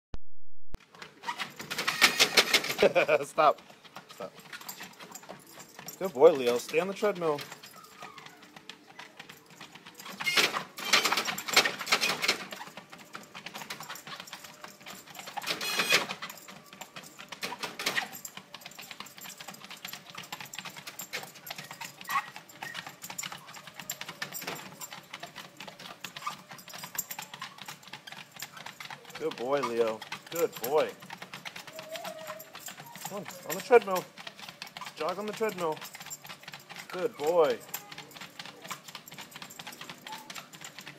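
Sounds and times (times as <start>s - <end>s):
dog claws clicking on treadmill: 0.8s - 40.9s
chain collar jingling: 1.3s - 40.9s.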